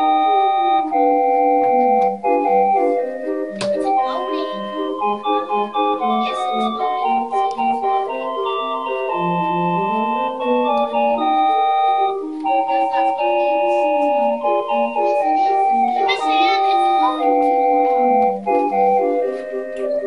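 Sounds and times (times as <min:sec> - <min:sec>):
organ music: 0:00.0 - 0:20.0.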